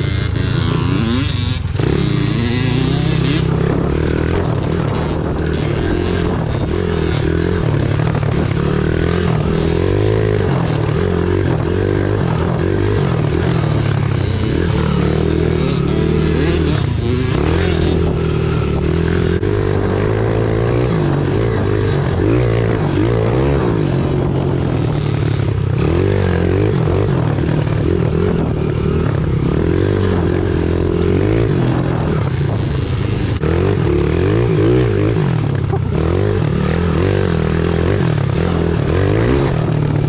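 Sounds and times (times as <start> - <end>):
motorbike engine revving: 0.0 - 40.0.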